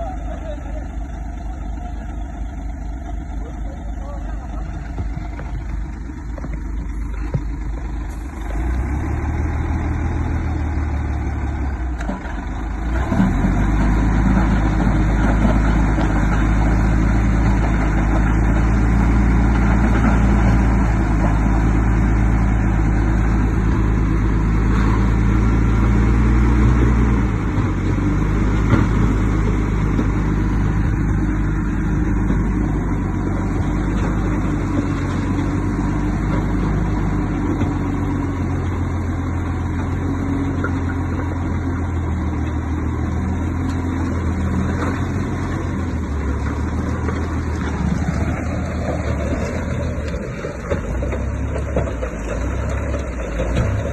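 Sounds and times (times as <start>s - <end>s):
heavy diesel engine under load: 0.0s - 53.9s.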